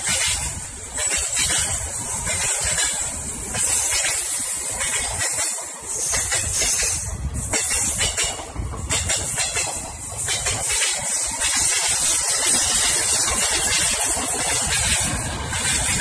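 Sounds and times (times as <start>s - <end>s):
trains passing at speed: 0.0s - 16.0s.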